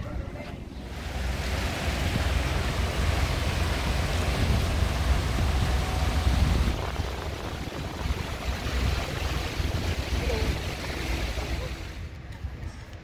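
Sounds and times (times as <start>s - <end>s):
wind buffeting microphone: 0.0s - 13.0s
water splashing down fountain: 0.9s - 12.0s.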